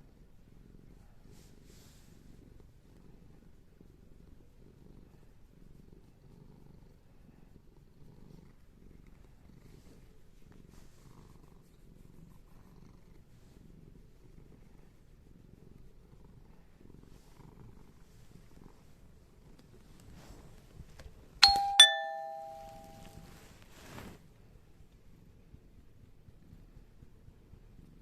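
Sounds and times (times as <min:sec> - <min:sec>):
cat purring: 0:00.0 - 0:20.6, 0:25.4 - 0:28.0.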